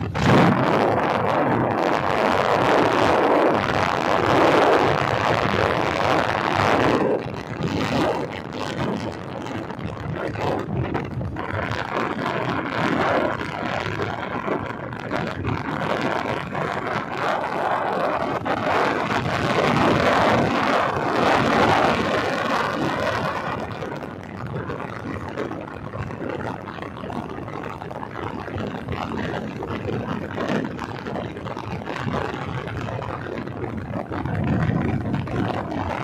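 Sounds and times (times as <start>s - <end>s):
motorcycle road noise: 0.0s - 36.0s
wind rushing over microphone: 0.0s - 36.0s.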